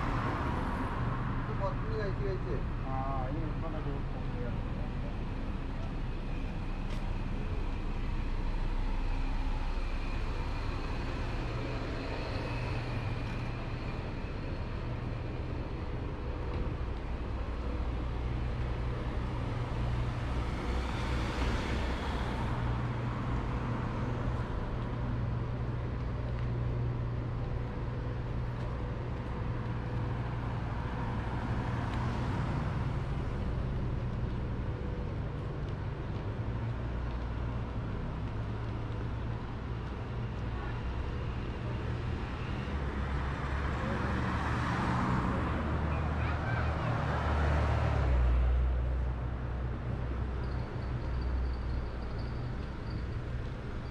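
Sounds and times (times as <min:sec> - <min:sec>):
low rumble of traffic: 0:00.0 - 0:53.9.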